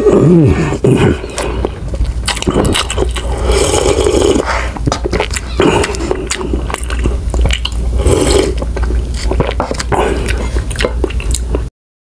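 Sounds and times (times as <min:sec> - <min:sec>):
person chewing food: 0:00.4 - 0:11.7
mouth clicks and smacks: 0:00.8 - 0:11.7.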